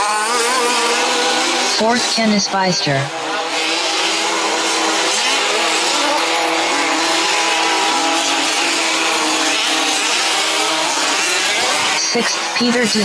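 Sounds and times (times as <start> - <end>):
small engines buzzing at high revs: 0.0 - 13.0.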